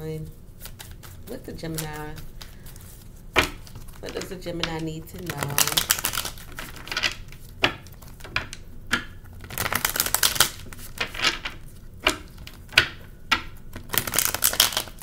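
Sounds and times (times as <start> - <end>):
cards being shuffled: 0.2 - 15.0.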